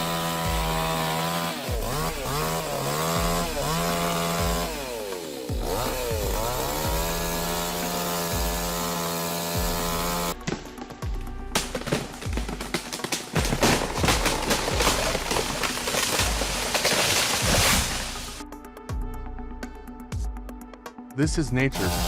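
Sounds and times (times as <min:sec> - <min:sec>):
chainsaw cutting wood: 0:00.0 - 0:18.4, 0:21.8 - 0:22.0.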